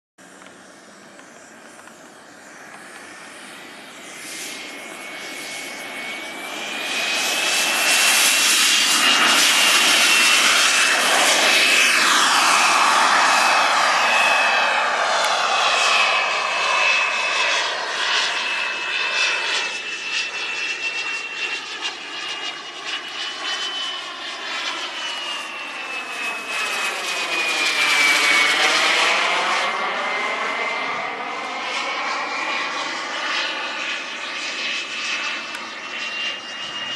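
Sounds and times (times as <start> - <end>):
model jet engine whine: 0.2 - 36.9.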